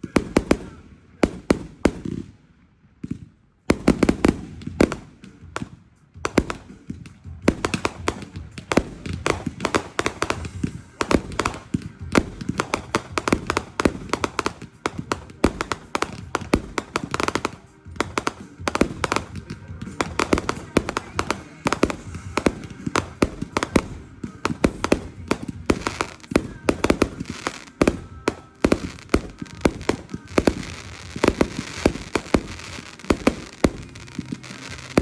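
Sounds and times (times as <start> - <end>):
fireworks cracking and popping: 0.0 - 35.0.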